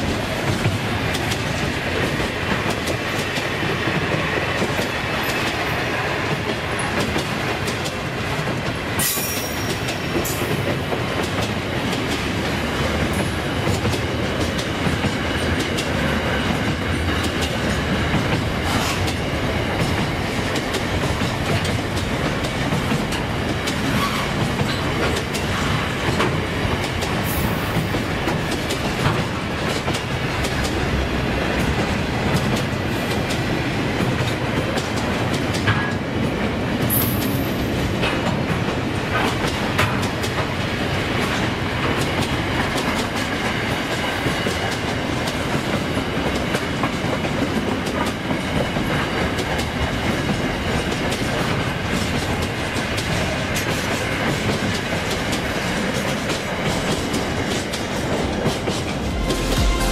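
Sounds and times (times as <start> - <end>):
steel train wheels rolling on rail: 0.0 - 59.9.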